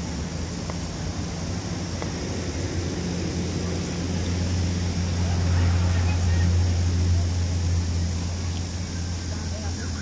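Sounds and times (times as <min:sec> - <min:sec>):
low mechanical drone: 0:00.0 - 0:10.0.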